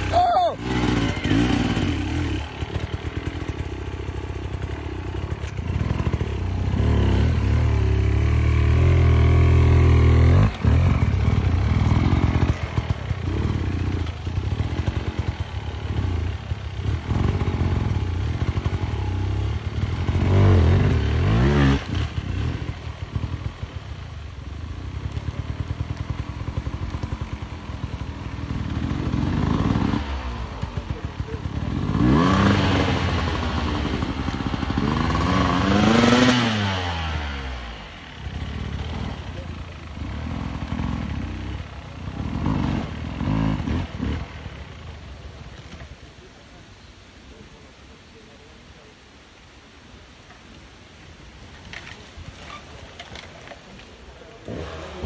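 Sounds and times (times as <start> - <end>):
dirt bike engine revving: 0.0 - 23.7, 24.8 - 44.8, 54.4 - 55.0.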